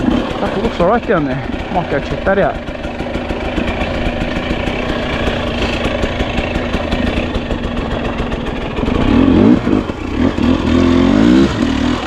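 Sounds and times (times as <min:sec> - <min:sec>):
dirt bike engine idling and revving: 0:00.0 - 0:12.0.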